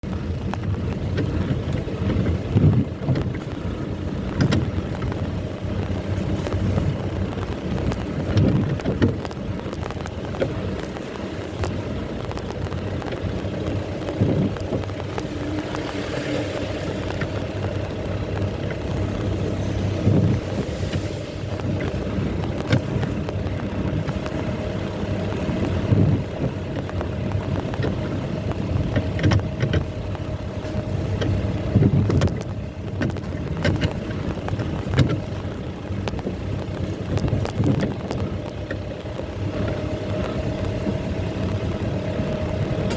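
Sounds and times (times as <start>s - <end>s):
vehicle engine driving: 0.0s - 42.9s
vehicle knocks and jolts: 0.1s - 38.9s
wind on microphone: 0.4s - 42.9s.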